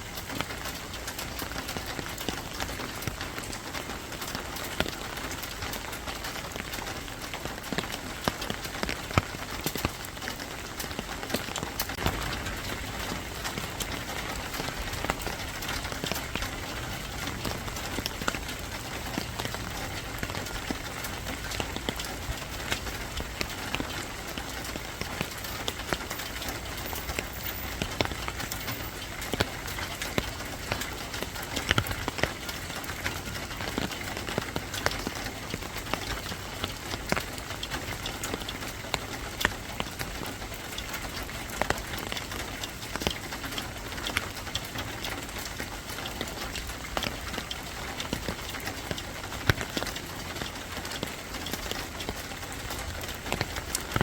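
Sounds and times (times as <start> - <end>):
steady rain: 0.0 - 54.0
single raindrops ticking: 0.1 - 54.0.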